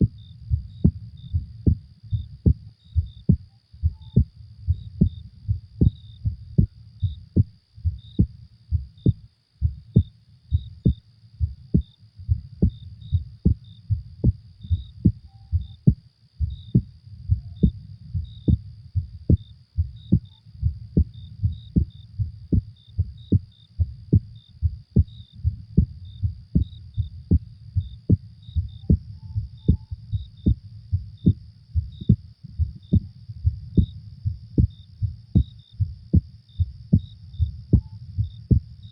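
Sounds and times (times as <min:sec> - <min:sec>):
faint high chirping: 0:00.0 - 0:38.9
heartbeat thumps: 0:00.0 - 0:38.9.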